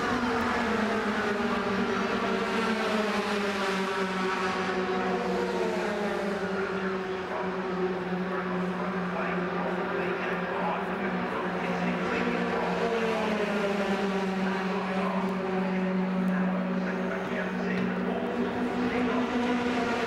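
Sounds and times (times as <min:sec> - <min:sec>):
racing truck engines droning: 0:00.0 - 0:20.0.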